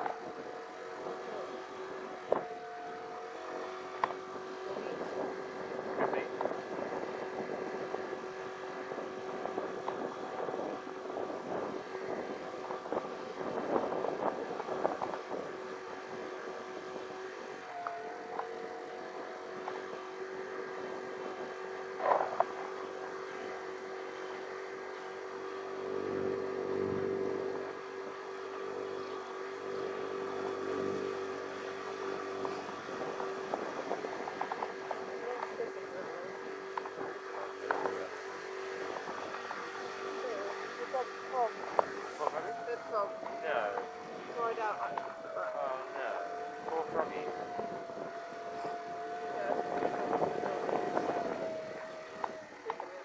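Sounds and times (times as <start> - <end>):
motor scooter engine running: 0.0 - 53.0.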